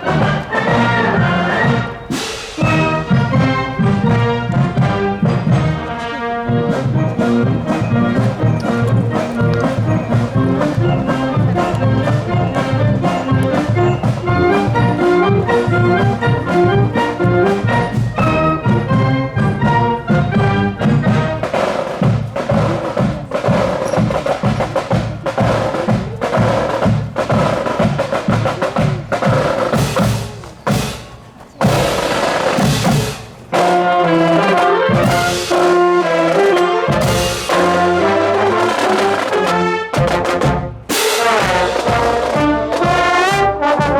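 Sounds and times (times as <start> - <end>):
brass playing melody: 0.0 - 23.7, 31.7 - 43.9
marching drums: 0.0 - 43.9.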